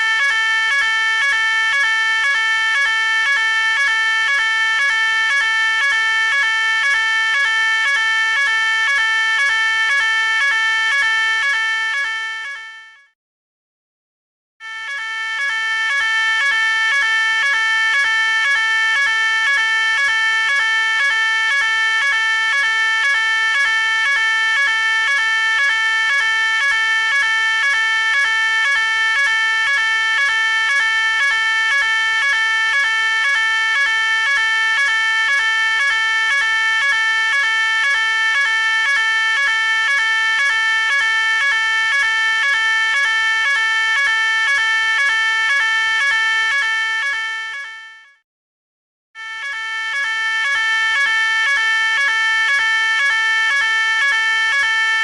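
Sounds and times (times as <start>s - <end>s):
fire alarm high-pitched pulsing tone: 0.0s - 13.1s, 14.6s - 48.2s, 49.2s - 55.0s.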